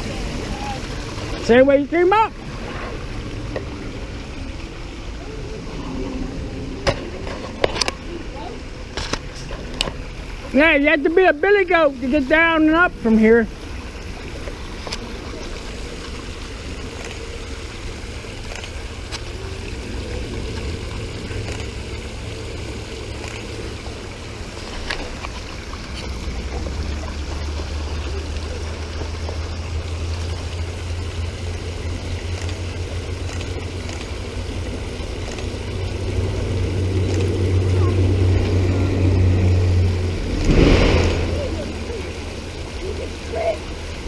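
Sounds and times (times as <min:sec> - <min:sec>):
water rushing over rocks: 0:00.0 - 0:44.0
low rumble: 0:02.3 - 0:10.5, 0:13.5 - 0:43.1.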